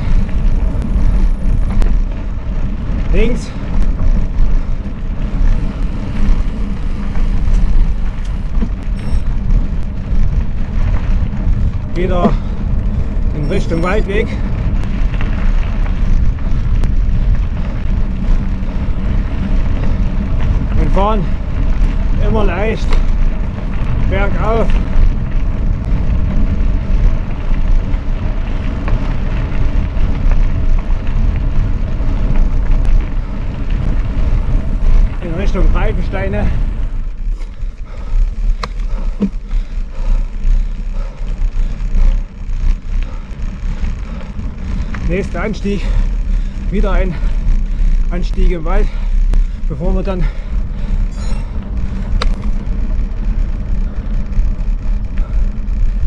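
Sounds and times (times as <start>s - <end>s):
bike rattles and clicks: 0.0s - 56.0s
bike tyres rumbling: 0.0s - 56.0s
wind on microphone: 0.0s - 56.0s.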